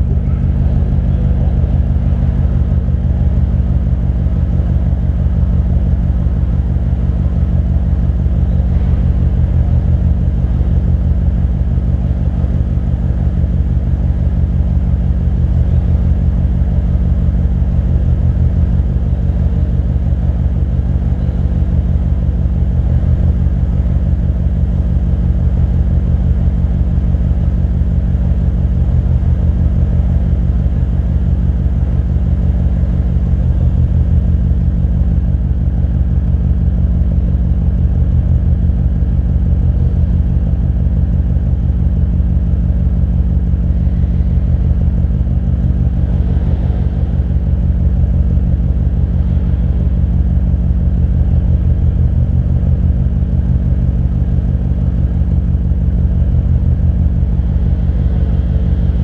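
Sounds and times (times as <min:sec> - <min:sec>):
car engine idling rumble: 0:00.0 - 0:59.0.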